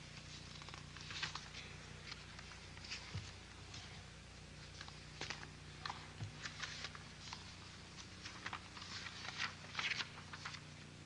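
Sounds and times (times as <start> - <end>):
faint steady hum: 0.0 - 11.0
paper rustling at microphone: 0.1 - 10.8.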